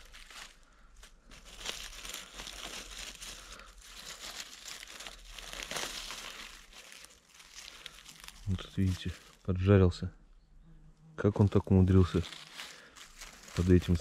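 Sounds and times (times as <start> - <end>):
rustling of dry leaves underfoot: 0.0 - 9.5, 11.4 - 14.0.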